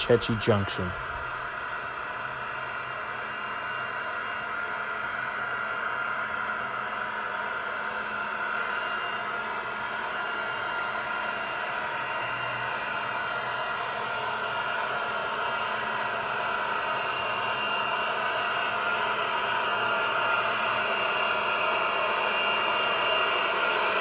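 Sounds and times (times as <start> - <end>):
model train whirring: 0.0 - 24.0.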